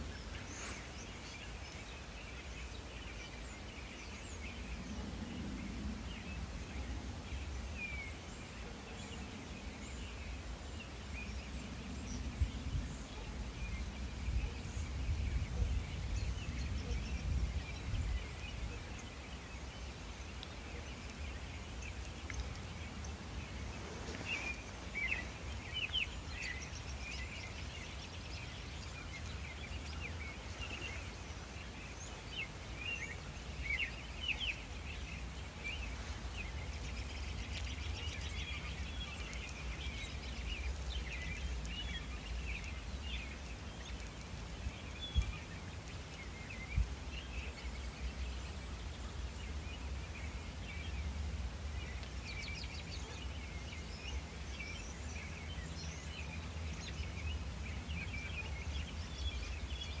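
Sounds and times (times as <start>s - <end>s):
songbirds chirping and trilling: 0.0s - 60.0s.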